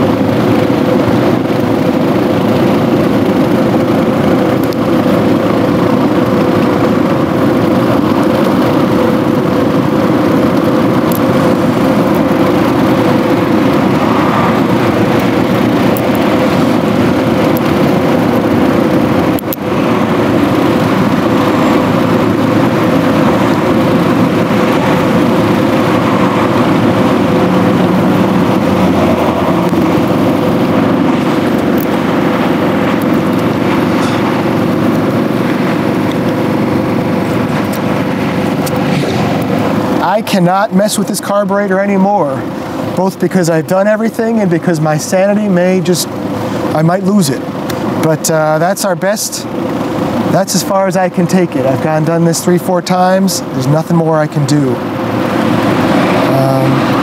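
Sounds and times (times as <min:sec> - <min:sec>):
machine drone: 0:00.0 - 0:57.0.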